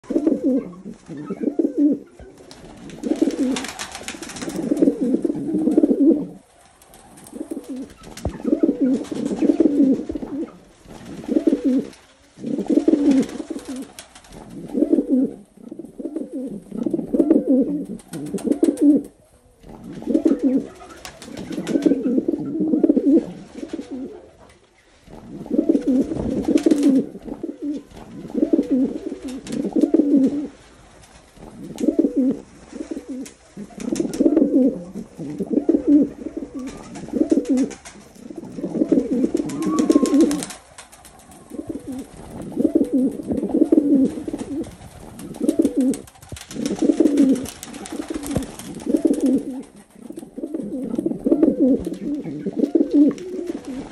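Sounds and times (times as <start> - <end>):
pigeons cooing: 0.0 - 53.9.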